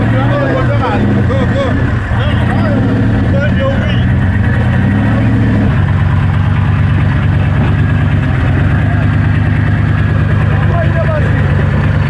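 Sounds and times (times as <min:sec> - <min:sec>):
car engine working hard: 0:00.0 - 0:12.0.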